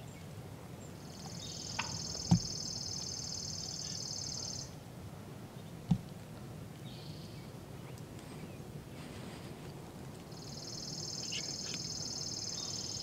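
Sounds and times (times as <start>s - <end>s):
faint outdoor hush: 0.0s - 13.0s.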